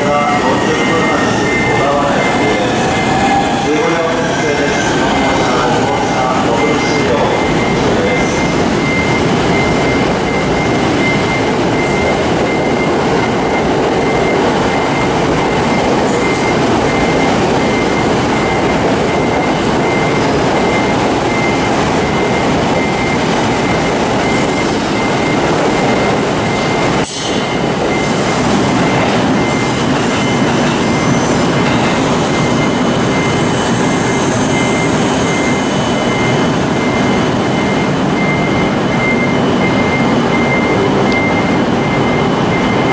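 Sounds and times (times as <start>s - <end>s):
high train motor whine: 0.0s - 42.9s
train wheels rumbling on rails: 0.0s - 42.9s.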